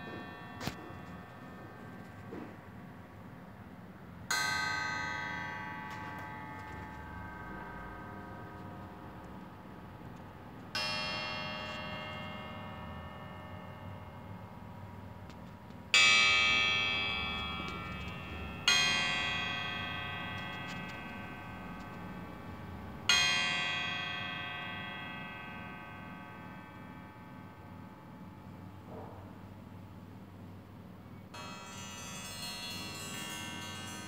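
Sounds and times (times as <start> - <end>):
bell-like metallic strikes: 0.0 - 2.8, 4.3 - 15.2, 15.9 - 28.2, 31.4 - 34.0.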